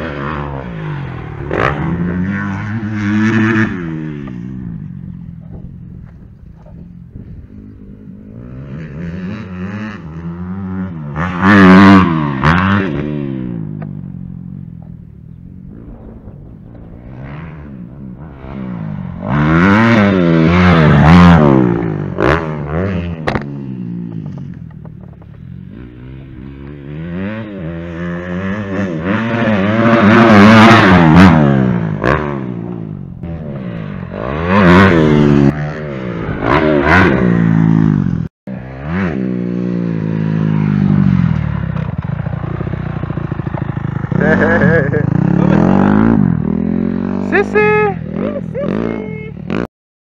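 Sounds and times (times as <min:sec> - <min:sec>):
dirt bikes revving past: 0:00.0 - 0:49.7.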